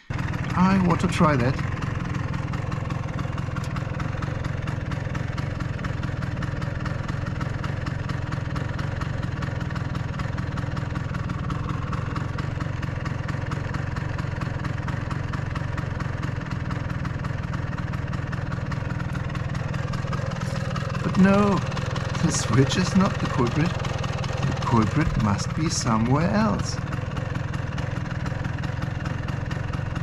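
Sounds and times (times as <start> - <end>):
scooter engine idling: 0.0 - 30.0.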